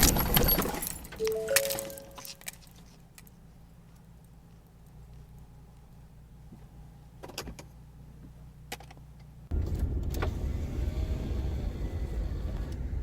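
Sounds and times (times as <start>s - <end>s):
road and tyre noise: 0.0s - 13.0s.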